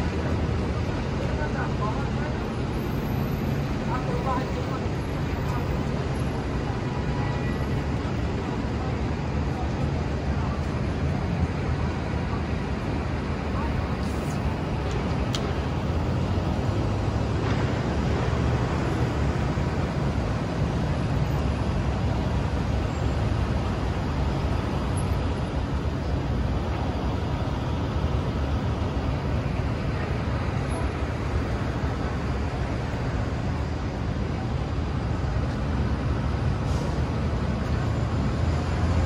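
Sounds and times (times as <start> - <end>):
city traffic rumble: 0.0 - 39.0.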